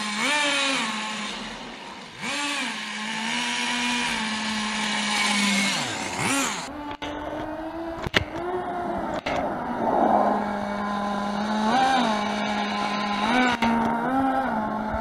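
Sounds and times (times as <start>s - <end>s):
model engine buzzing and revving: 0.0s - 15.0s.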